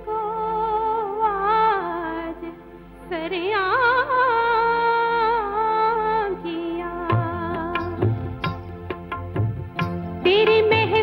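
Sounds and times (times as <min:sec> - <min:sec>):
indian classical melody over drone: 0:00.0 - 0:11.0.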